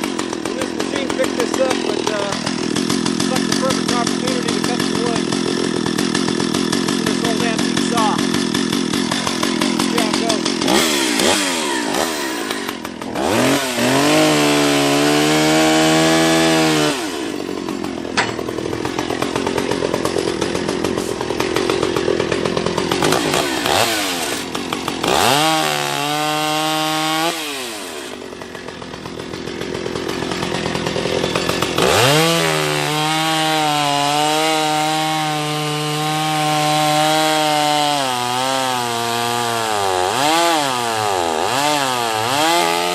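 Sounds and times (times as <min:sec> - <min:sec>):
chainsaw revving: 0:00.0 - 0:42.9.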